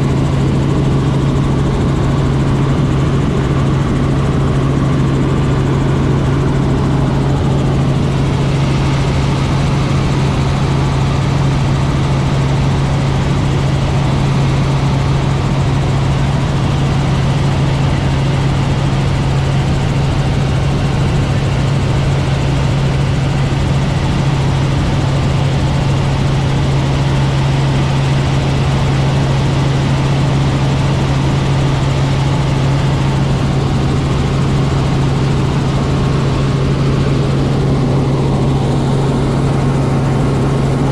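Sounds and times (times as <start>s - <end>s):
helicopter engine and rotors droning: 0.0s - 40.9s.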